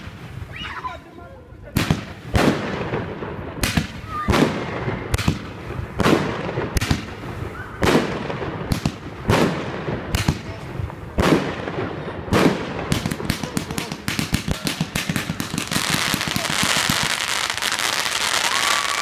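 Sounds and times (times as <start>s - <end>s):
fireworks bangs with crackling tail: 0.0s - 0.6s, 1.6s - 19.0s.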